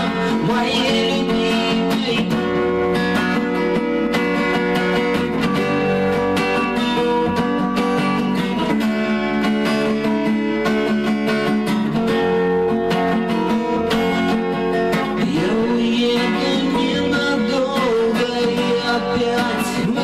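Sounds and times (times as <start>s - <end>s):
acoustic guitar strumming and plucking: 0.0s - 20.0s.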